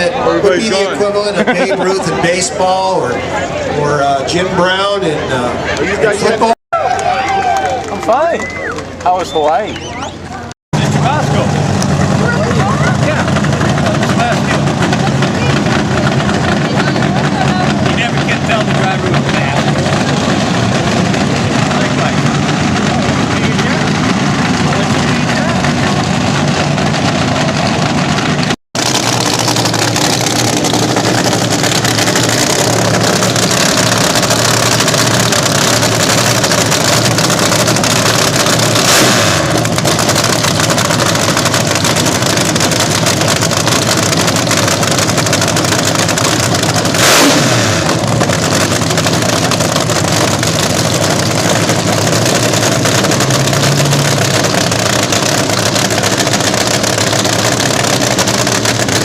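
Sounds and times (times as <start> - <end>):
dragster engine revving: 10.1 - 59.0.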